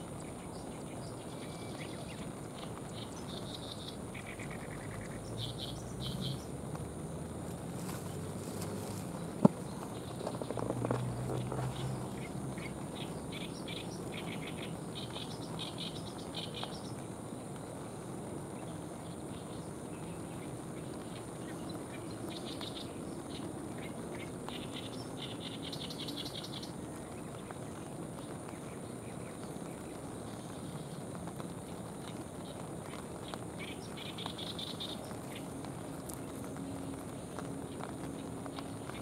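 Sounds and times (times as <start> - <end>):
songbird chirping: 0.0 - 39.0
steady background hiss: 0.0 - 39.0.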